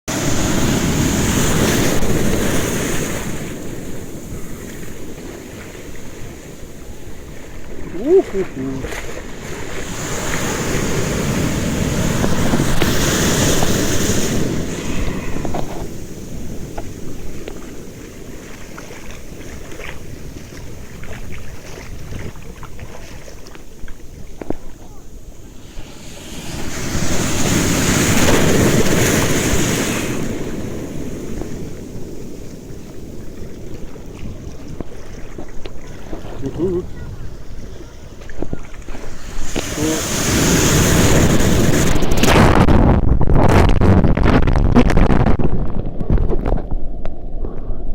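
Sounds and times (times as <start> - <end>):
surf breaking on shore: 0.1 - 47.9
wind buffeting microphone: 0.1 - 47.9.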